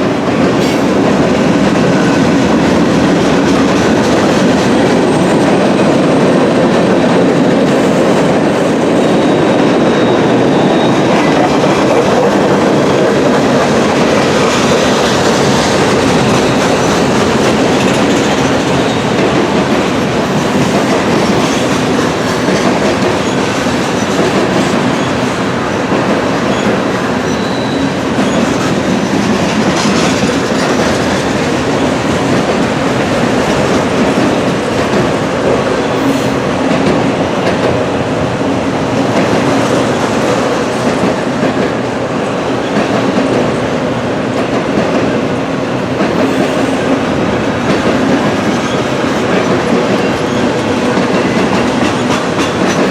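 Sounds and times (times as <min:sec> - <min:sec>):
wheels clacking over rail joints: 0:00.0 - 0:36.0, 0:39.0 - 0:52.9
freight train rumbling past: 0:00.0 - 0:52.9.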